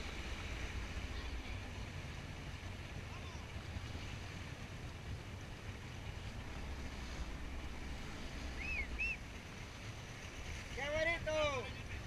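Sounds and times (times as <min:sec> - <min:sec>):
boat engine rumble: 0:00.0 - 0:12.0
wind and water rushing: 0:00.0 - 0:12.0.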